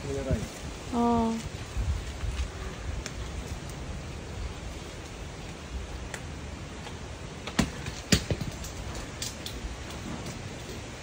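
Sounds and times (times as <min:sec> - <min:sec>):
wind blowing through trees: 0:00.0 - 0:11.0
wind rumble on microphone: 0:00.0 - 0:11.0.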